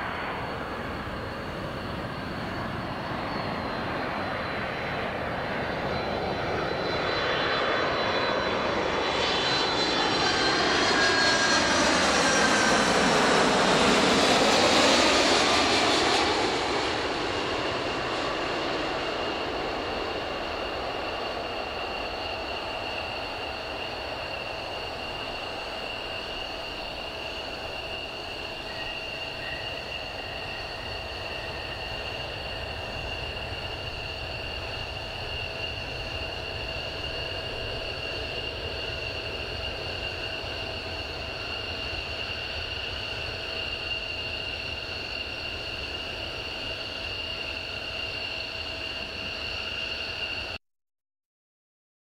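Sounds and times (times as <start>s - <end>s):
jet engines whining: 0.0s - 50.6s.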